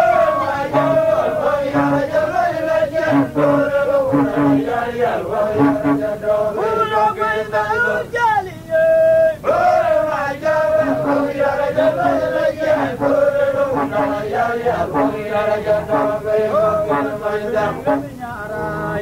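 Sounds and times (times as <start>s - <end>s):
men singing a chant: 0.0s - 19.0s.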